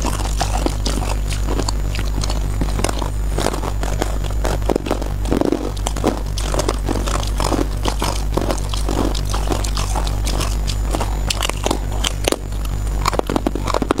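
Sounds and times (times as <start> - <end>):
crushed ice crunching: 0.0 - 14.0
steady low hum: 0.0 - 14.0.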